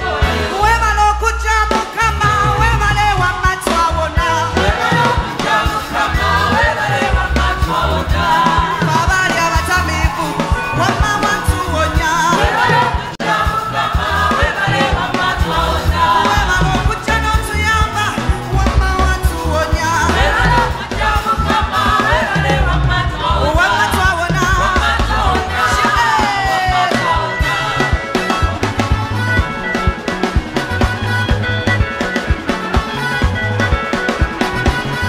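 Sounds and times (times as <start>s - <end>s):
keyboard: 0.0s - 35.0s
woman singing into microphone: 0.5s - 28.7s
pulsing bass beat: 2.0s - 32.0s.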